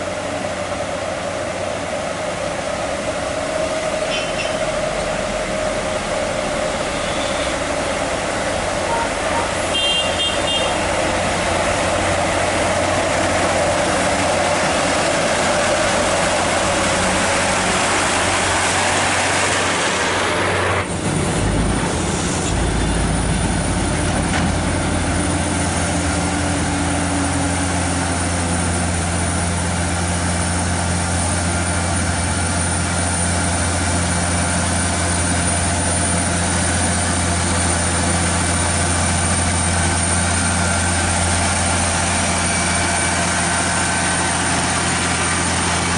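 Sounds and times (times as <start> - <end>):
heavy truck engine running: 0.0 - 45.9.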